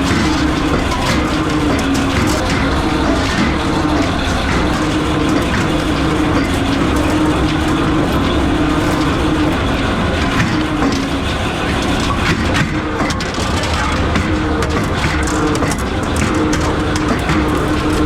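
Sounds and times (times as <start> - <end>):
metalworking machinery humming: 0.0 - 18.0.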